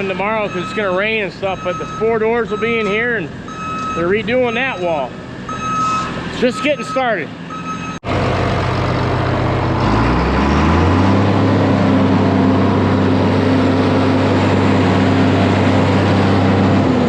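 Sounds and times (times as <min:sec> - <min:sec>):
diesel tractor engine revving: 0:00.0 - 0:17.0.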